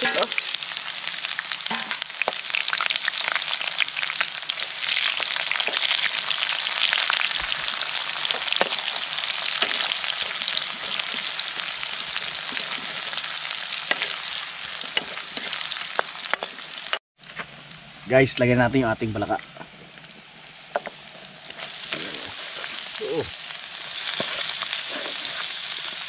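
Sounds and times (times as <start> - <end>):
onion sizzling in hot oil: 0.0 - 18.1, 19.4 - 26.0.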